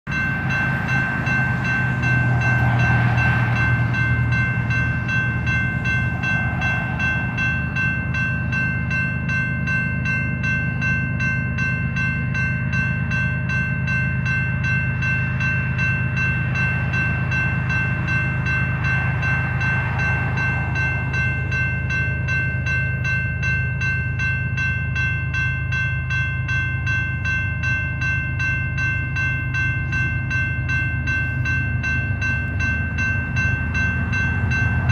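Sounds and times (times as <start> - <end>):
high-pitched ringing tones: 0.1 - 34.9
train wheels rumbling on rail: 0.1 - 34.9.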